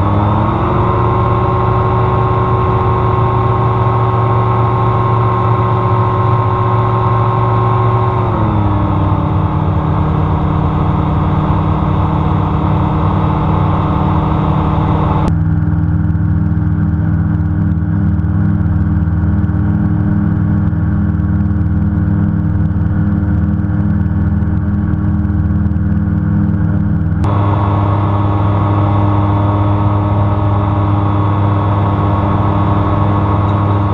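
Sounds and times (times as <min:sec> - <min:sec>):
aircraft engine and propeller drone: 0:00.0 - 0:33.9.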